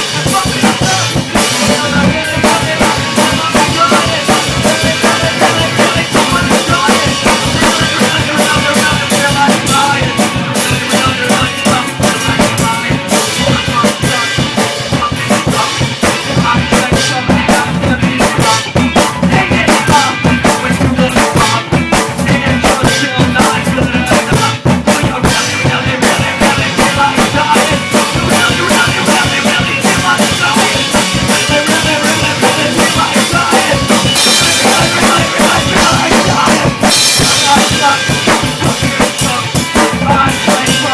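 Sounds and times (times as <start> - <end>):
drum kit fast beat: 0.0 - 40.9
rock band playing: 0.0 - 40.9.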